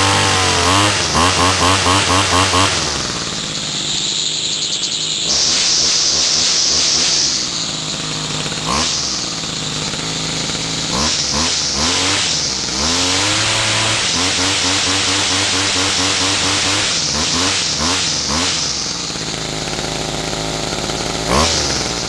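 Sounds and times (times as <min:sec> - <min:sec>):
string trimmer engine revving: 0:00.0 - 0:22.0.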